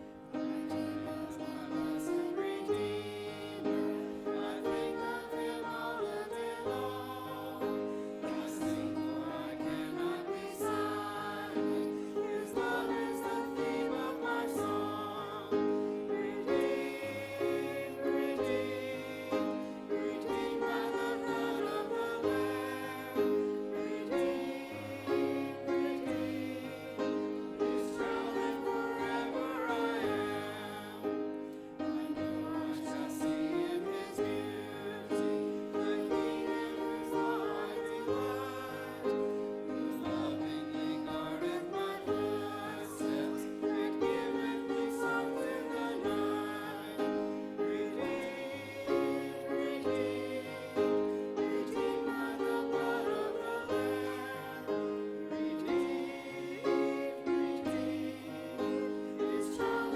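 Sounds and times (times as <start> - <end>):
voices singing: 0.0 - 59.9.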